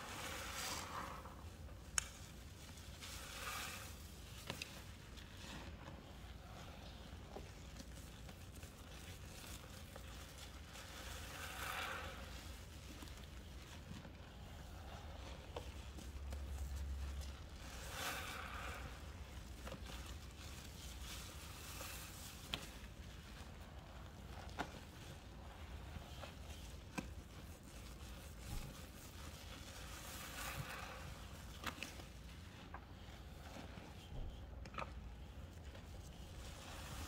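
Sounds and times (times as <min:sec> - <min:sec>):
soap paste squishing by hand: 0:00.0 - 0:37.0.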